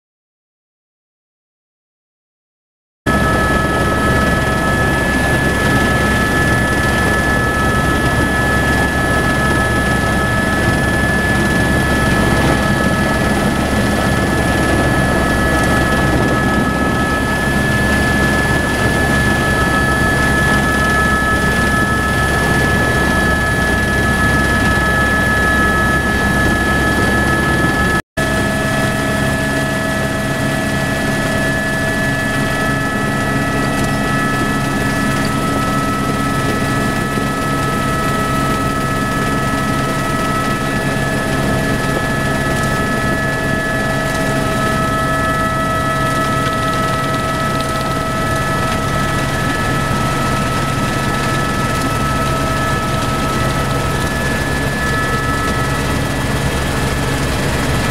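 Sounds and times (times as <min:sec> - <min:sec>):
helicopter engine and rotor: 0:03.1 - 0:57.9
high whine: 0:03.1 - 0:57.9.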